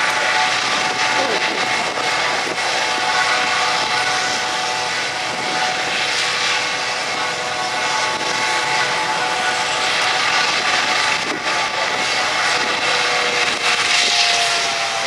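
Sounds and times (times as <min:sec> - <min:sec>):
helicopter rotor rushing noise: 0:00.0 - 0:15.0
helicopter turbine whine: 0:00.0 - 0:15.0.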